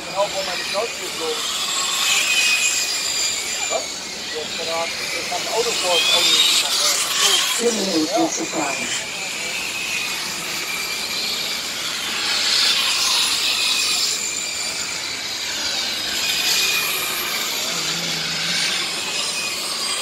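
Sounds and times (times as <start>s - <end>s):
rc trucks whining past: 0.0s - 20.0s.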